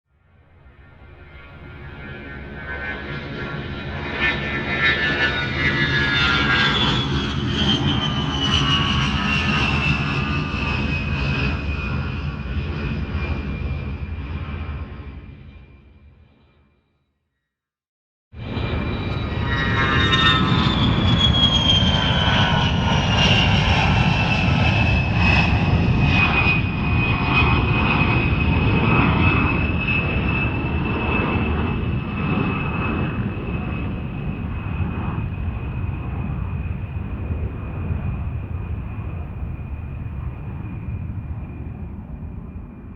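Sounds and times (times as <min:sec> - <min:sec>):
jet aircraft rumble and whine: 0:00.2 - 0:16.5, 0:18.4 - 0:42.9.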